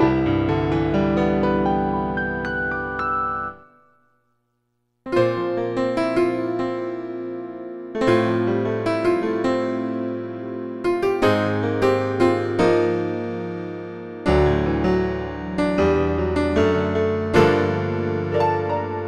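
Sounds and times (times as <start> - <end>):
synthesizer piano chords and melody: 0.0 - 4.2, 5.1 - 19.0.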